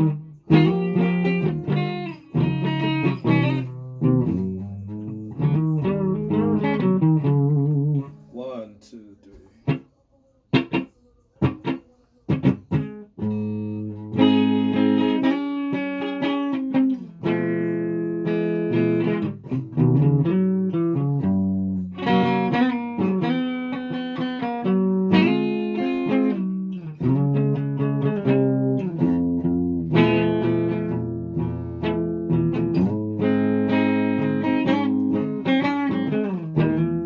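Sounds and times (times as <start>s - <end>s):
guitar plucks and chords: 0.0s - 8.3s, 10.5s - 37.0s.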